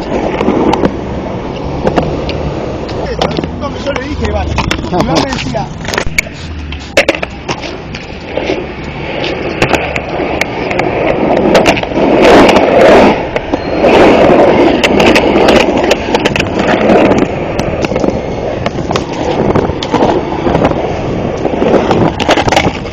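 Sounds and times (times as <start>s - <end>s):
skateboard clacks and knocks: 0.0s - 22.9s
skateboard wheels rolling on concrete: 0.0s - 22.9s.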